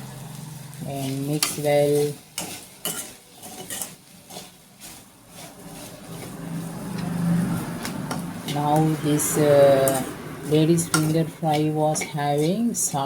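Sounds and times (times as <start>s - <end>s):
spatula scraping frying pan: 0.0s - 13.0s.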